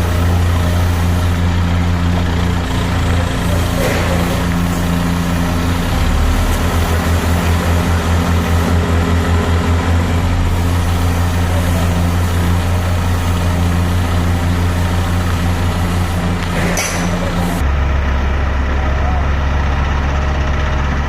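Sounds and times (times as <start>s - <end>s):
heavy diesel engine throbbing: 0.0s - 21.0s.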